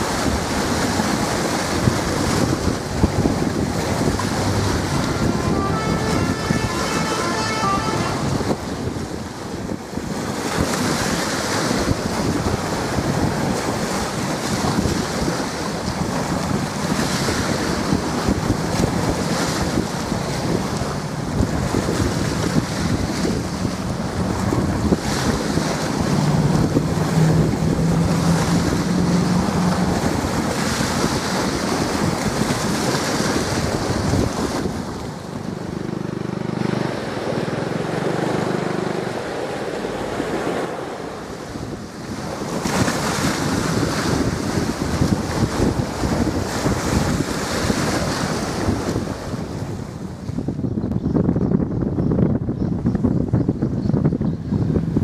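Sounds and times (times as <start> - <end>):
sea waves washing in: 0.0 - 50.6
wind buffeting microphone: 0.0 - 55.0.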